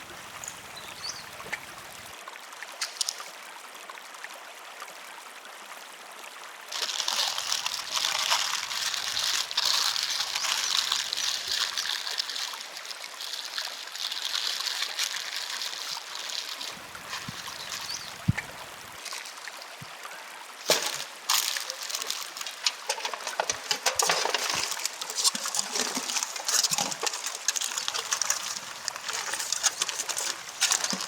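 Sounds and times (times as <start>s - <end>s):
water trickling and gurgling: 0.0s - 5.5s, 6.6s - 31.0s.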